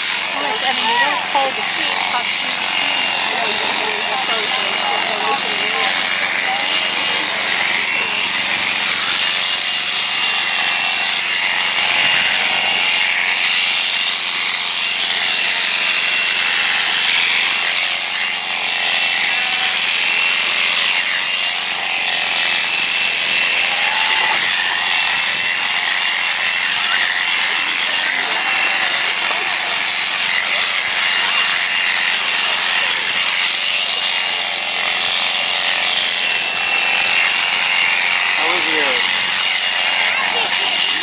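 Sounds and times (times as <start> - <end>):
cutter clipping through fleece: 0.0 - 41.0
electric shears whining: 0.0 - 41.0.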